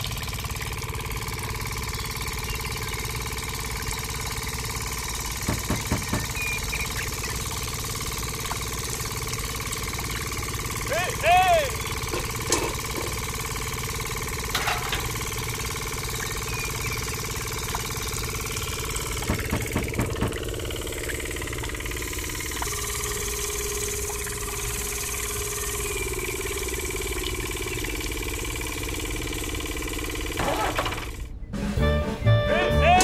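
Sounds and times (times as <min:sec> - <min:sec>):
small motor running: 0:00.0 - 0:31.4.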